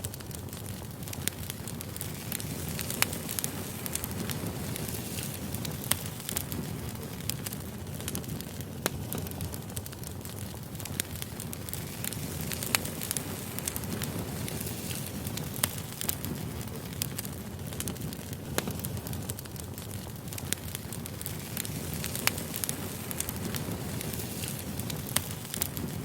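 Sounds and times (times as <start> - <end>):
campfire crackling and popping: 0.0 - 26.0
low rumble of flame: 0.0 - 26.0.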